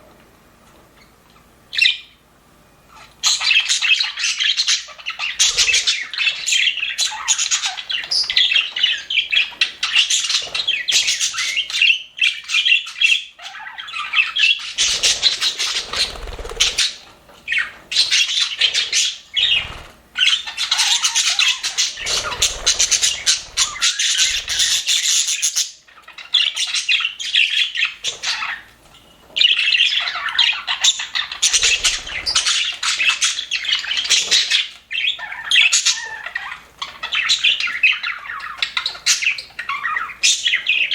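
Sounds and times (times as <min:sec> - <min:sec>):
budgerigars chattering and warbling: 0:03.0 - 0:28.7, 0:29.4 - 0:40.9.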